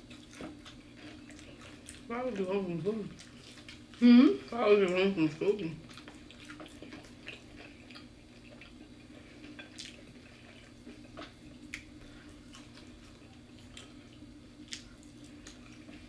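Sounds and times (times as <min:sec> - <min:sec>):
person chewing food: 0:00.0 - 0:04.0, 0:05.8 - 0:16.0
faint steady hum: 0:00.0 - 0:16.0.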